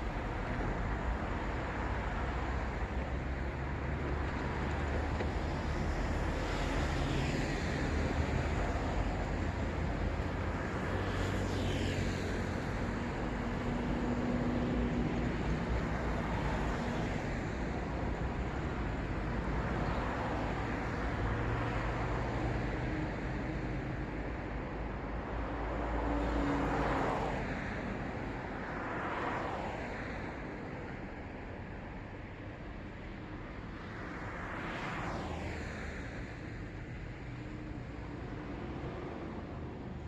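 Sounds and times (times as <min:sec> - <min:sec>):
passing cars: 0:00.0 - 0:40.0.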